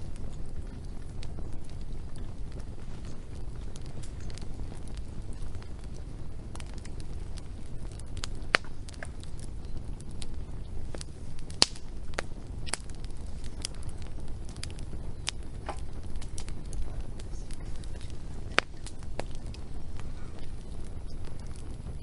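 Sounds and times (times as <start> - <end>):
low steady rumble: 0.0 - 22.0
wood fire crackling and popping: 0.0 - 22.0.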